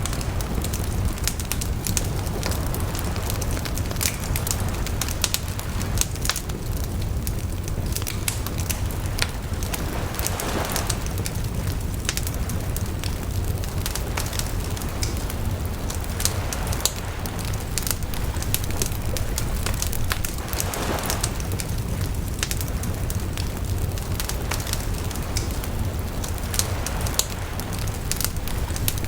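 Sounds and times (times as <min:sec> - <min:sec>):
bonfire crackling: 0:00.0 - 0:29.0
rushing flame noise: 0:00.0 - 0:29.0.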